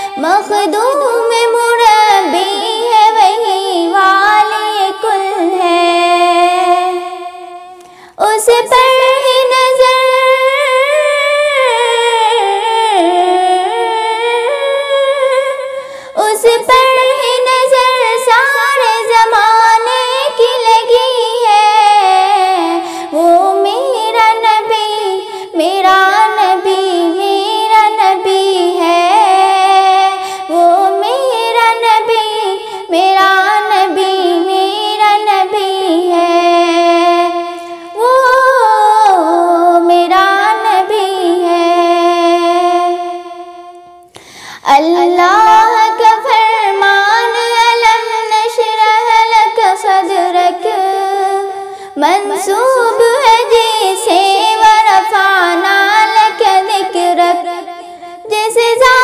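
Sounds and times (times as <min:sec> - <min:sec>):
girl singing unaccompanied: 0:00.0 - 0:44.0, 0:44.6 - 0:59.0.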